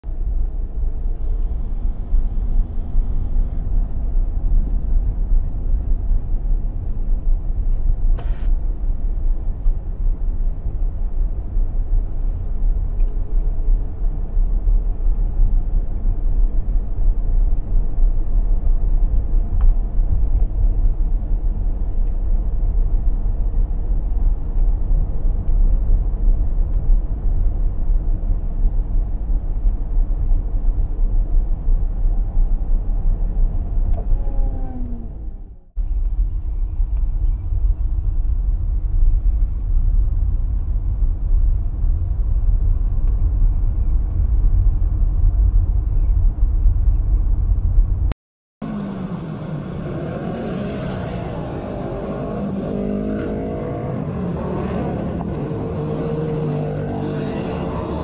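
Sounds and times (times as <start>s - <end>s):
car driving rumble: 0.0s - 58.0s.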